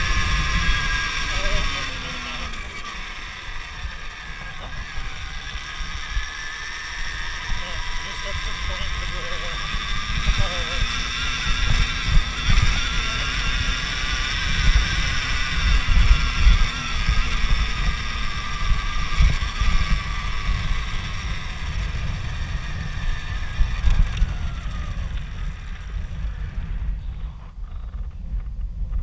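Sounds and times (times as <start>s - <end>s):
electric motorbike motor whining: 0.0s - 28.5s
rough low rumble: 0.0s - 29.0s
wind buffeting microphone: 0.0s - 29.0s.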